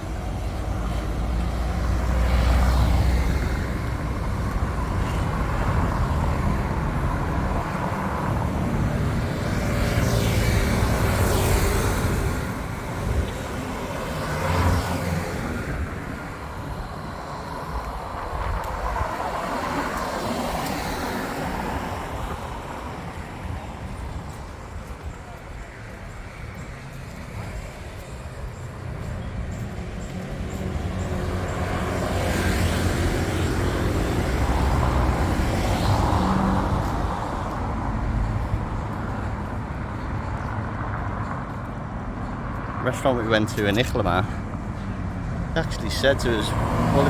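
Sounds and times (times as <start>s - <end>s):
vehicles passing close by: 0.0s - 47.0s.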